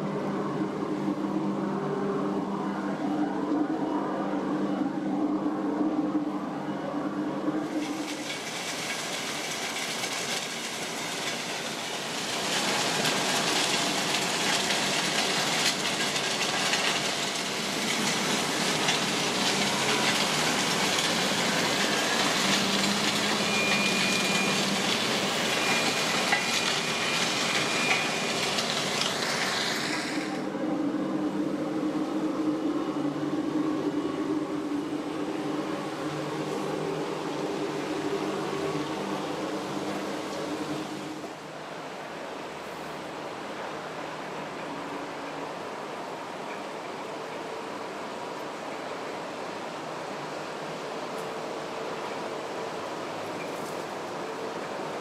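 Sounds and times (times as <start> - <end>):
low industrial drone: 0.0 - 55.0.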